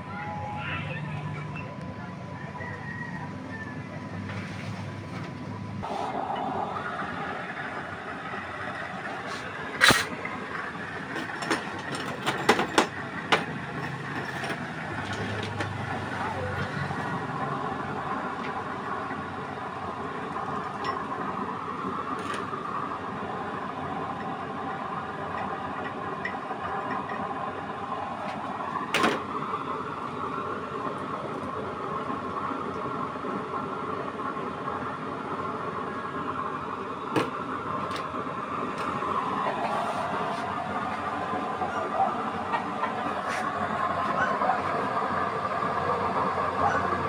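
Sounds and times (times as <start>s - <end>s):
stove blower whirring roar: 0.0s - 47.0s.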